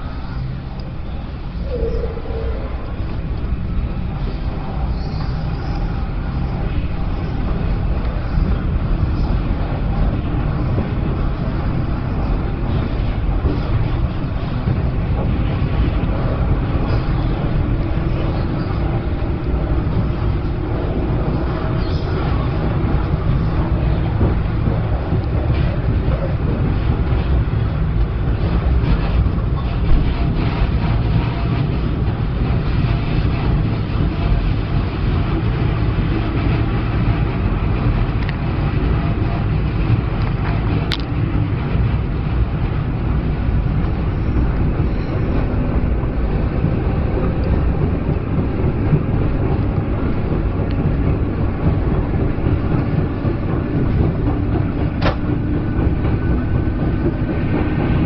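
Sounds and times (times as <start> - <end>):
train rumbling underground: 0.0 - 58.0.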